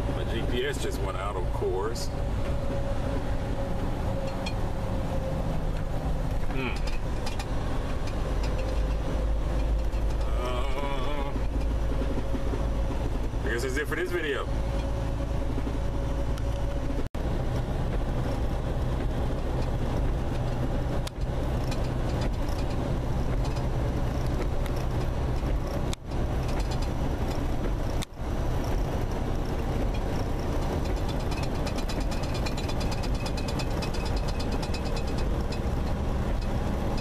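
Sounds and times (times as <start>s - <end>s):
engine and road rumble in cab: 0.0s - 37.0s.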